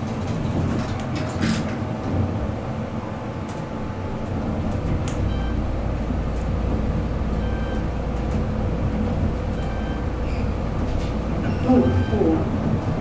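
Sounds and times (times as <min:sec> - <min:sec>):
elevator ride rumble: 0:00.0 - 0:13.0.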